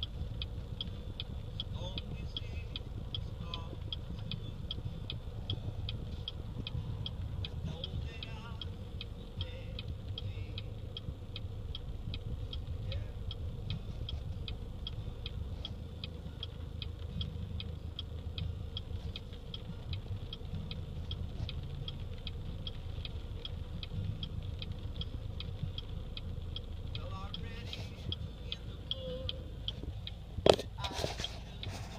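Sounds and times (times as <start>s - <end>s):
car turn signal clicking: 0.0s - 31.9s
low rumble inside car: 0.0s - 31.9s.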